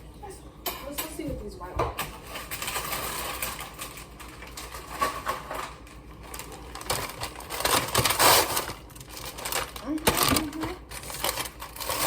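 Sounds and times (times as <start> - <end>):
plastic package rustling: 2.2 - 12.0
small clicks and crinkles: 2.2 - 12.0.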